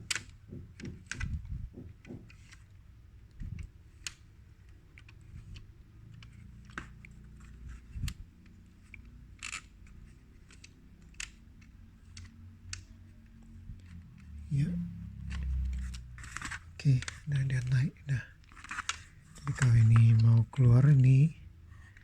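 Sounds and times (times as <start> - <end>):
plastic clicks and clacks: 0.0 - 14.4, 15.0 - 21.2.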